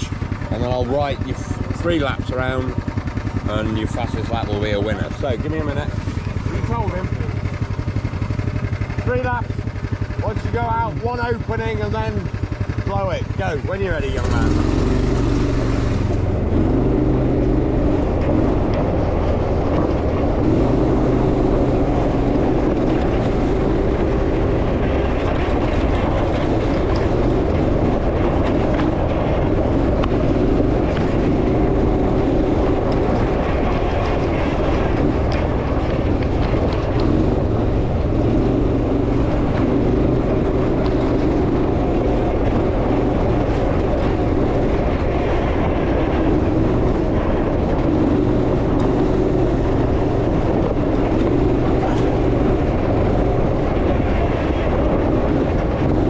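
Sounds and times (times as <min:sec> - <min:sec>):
off-road buggy engine running: 0:00.0 - 0:56.0.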